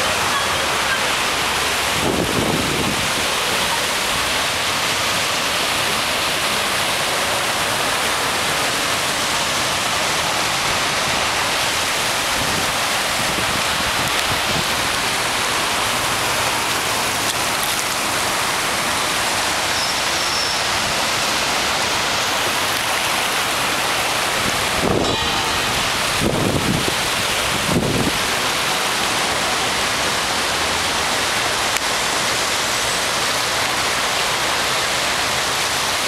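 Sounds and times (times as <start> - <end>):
rushing water hiss: 0.0 - 36.0.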